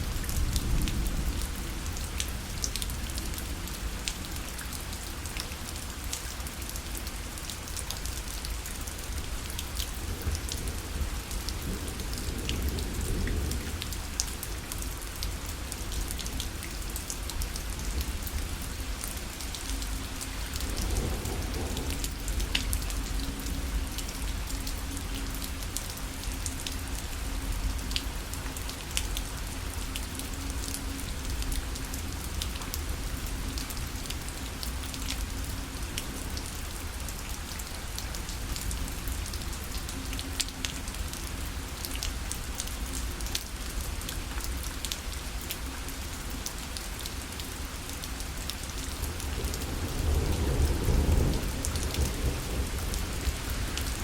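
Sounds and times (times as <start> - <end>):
rain on fabric parasol: 0.0 - 54.0.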